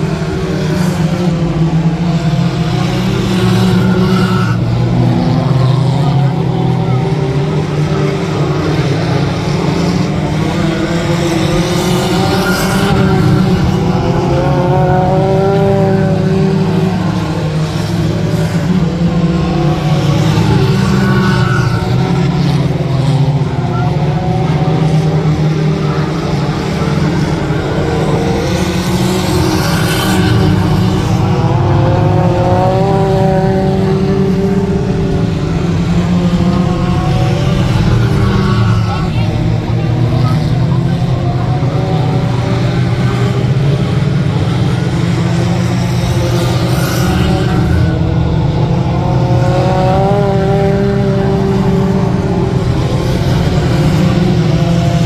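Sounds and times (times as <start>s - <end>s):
pickup truck engines racing: 0.0s - 55.0s.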